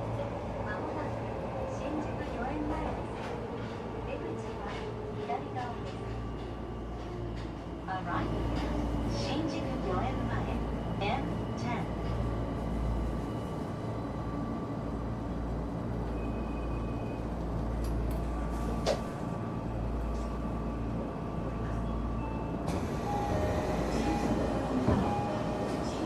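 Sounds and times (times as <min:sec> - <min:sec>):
electric train rumble and hum: 0:00.0 - 0:26.0
station or carriage noise: 0:00.0 - 0:26.0.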